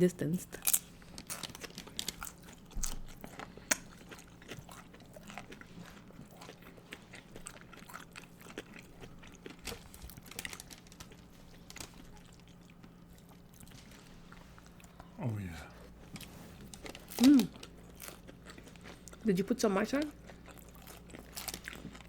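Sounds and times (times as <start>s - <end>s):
faint steady hum: 0.0s - 22.0s
crunching chips: 0.6s - 19.3s, 20.0s - 22.0s.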